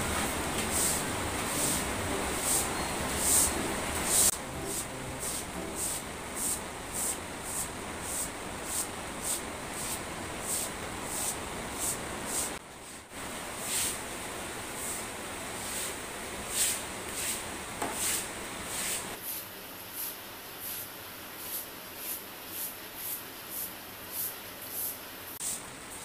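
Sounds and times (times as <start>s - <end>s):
broom sweeping floor: 0.0s - 25.7s.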